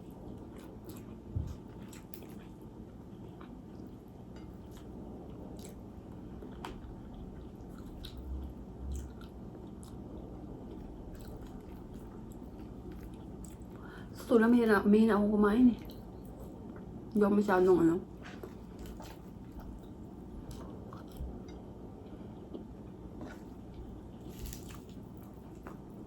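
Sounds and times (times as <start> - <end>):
person chewing food: 0.0 - 13.9, 18.2 - 26.0.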